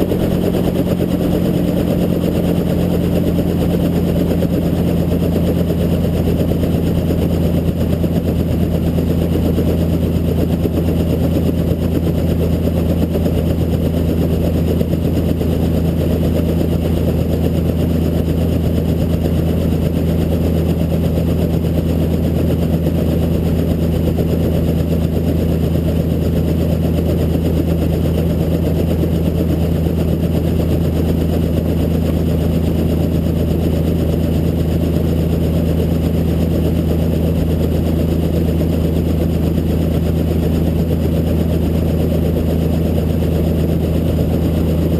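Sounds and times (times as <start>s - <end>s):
helicopter drone: 0.0s - 44.9s.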